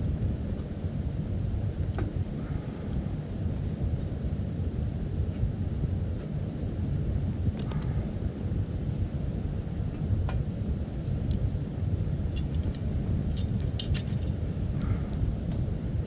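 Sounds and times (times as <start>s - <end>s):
wood fire crackling: 0.0s - 14.9s
wind rumble on microphone: 0.0s - 16.0s.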